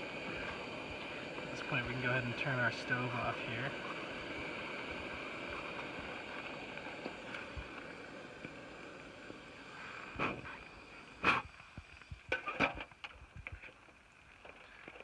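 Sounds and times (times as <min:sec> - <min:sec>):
stove burner hissing: 0:00.0 - 0:15.0.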